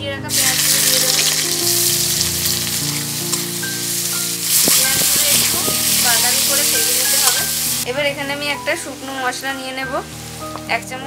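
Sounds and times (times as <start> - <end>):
onions sizzling in hot oil: 0.3 - 11.0.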